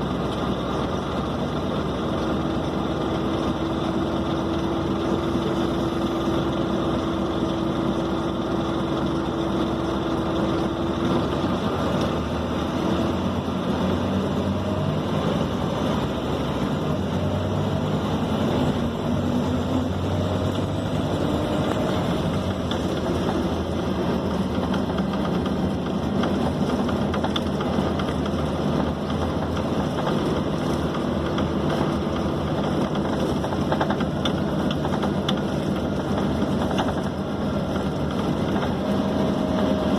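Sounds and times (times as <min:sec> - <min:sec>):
bus diesel engine running: 0:00.0 - 0:39.9
road and body noise: 0:00.0 - 0:39.9.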